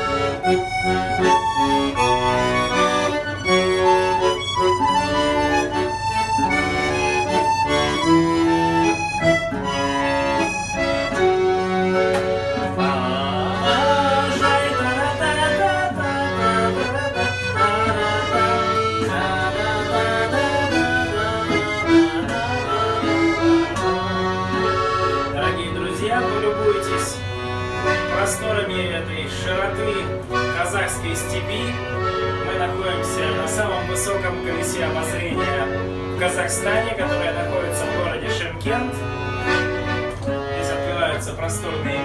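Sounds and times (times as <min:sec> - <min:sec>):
accordion playing chords: 0:00.0 - 0:42.0.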